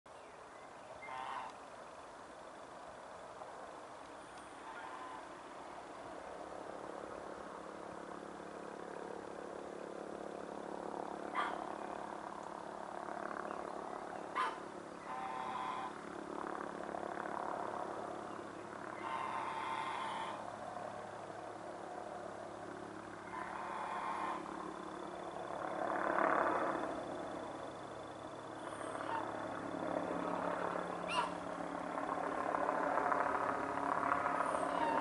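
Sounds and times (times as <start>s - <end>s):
helicopter flying past: 0.4s - 35.0s.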